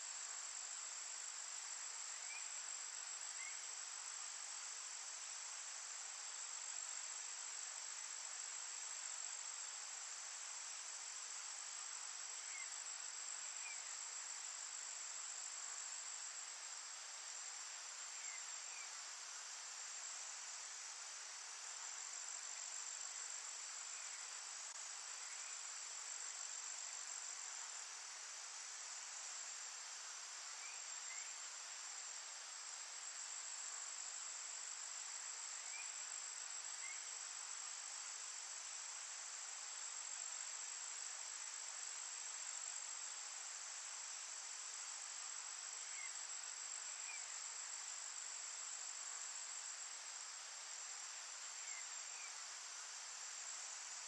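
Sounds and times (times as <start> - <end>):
insects trilling: 0.1 - 43.2, 44.0 - 54.0.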